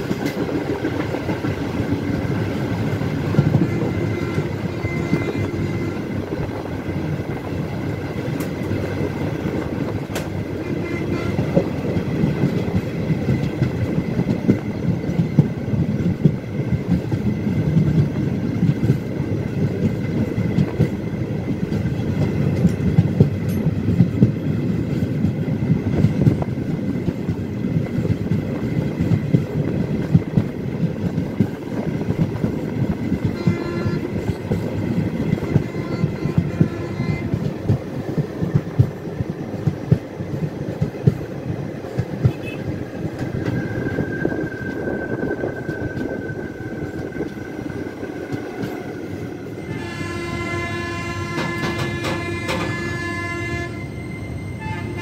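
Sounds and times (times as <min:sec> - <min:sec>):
clickety-clack over rail joints: 0:00.0 - 0:53.8
train wheels rumbling on rails: 0:00.0 - 0:55.0.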